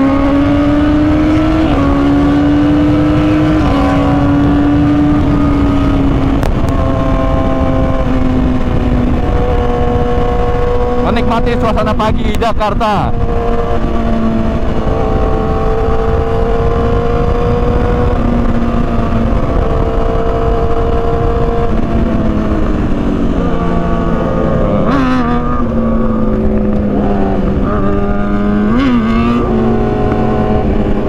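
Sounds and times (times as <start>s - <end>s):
motorcycle engine cruising: 0.0s - 31.0s
wind on microphone: 0.0s - 31.0s.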